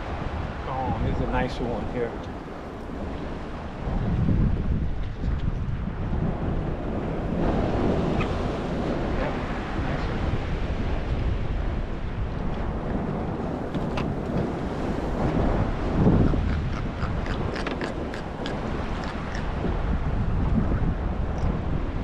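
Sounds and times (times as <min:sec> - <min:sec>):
water lapping around boat: 0:00.0 - 0:22.0
wind buffeting microphone: 0:00.0 - 0:22.0.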